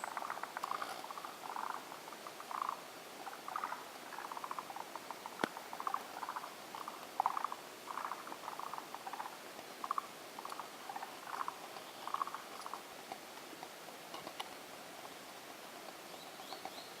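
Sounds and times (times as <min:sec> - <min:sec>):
tree frogs calling in chorus: 0:00.0 - 0:13.0, 0:15.7 - 0:17.0.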